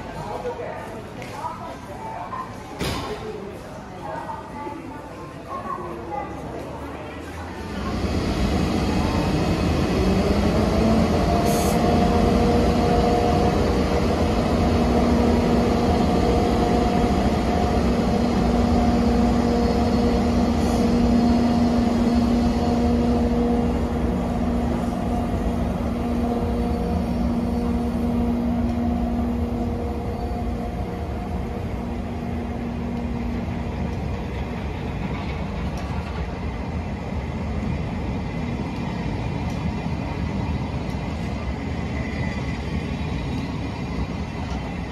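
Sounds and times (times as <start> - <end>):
electric locomotive humming: 4.8 - 44.9.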